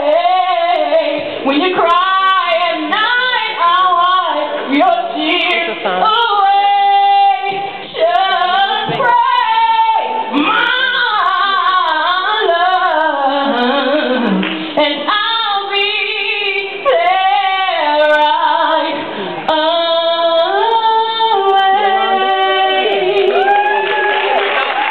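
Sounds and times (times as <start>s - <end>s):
woman singing: 0.0s - 24.2s.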